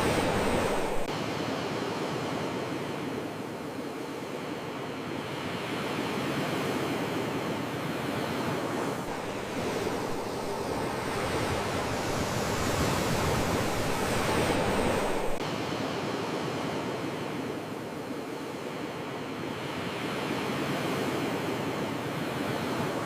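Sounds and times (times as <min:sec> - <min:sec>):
sea waves washing on shore: 0:00.0 - 0:23.0.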